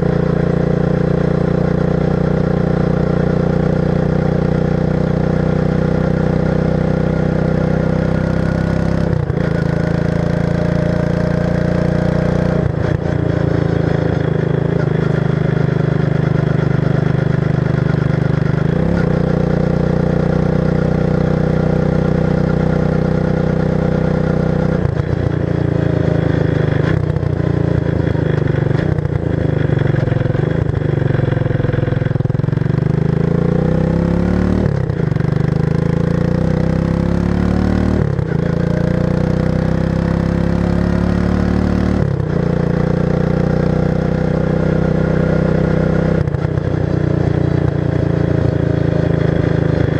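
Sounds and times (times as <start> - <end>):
atv engine running loud: 0.0 - 49.9.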